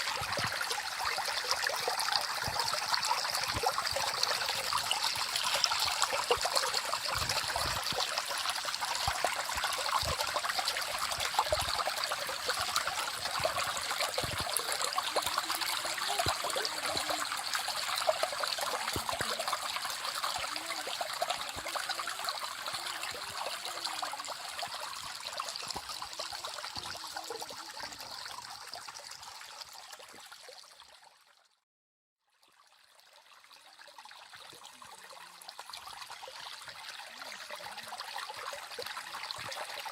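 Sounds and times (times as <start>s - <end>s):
stream water running: 0.0s - 31.6s, 32.3s - 39.9s.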